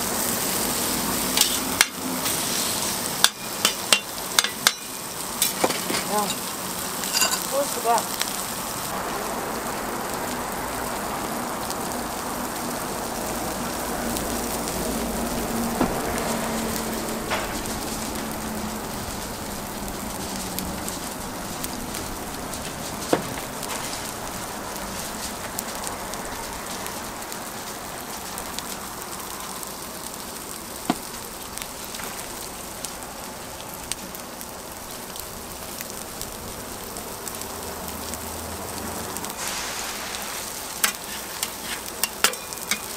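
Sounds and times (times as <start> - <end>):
food sizzling on a griddle: 0.0 - 42.9.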